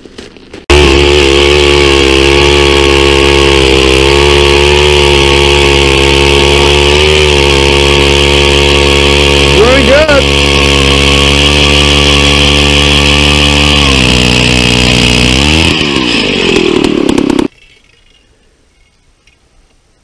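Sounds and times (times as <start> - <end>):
ice auger engine drilling: 0.7 - 17.5.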